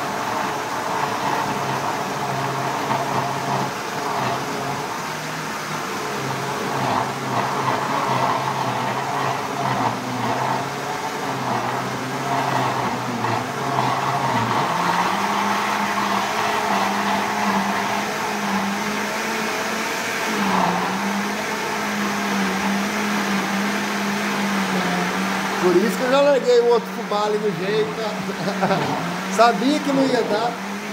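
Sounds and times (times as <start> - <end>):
blender motor hum: 0.0 - 30.9.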